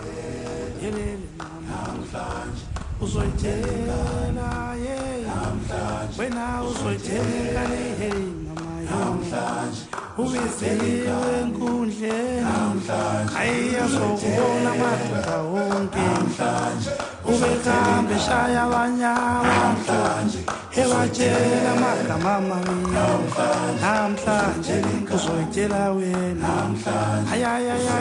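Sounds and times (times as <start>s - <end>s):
choir singing unaccompanied: 0.0s - 28.0s.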